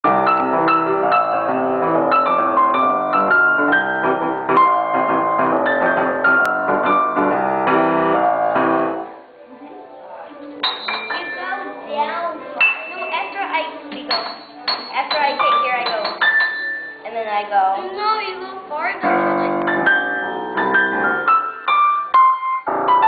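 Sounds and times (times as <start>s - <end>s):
grand piano playing: 0.0s - 23.0s.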